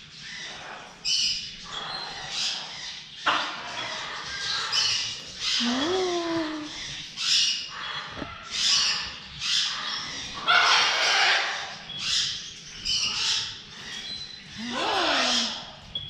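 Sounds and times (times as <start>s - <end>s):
parrots squawking: 0.3s - 15.9s.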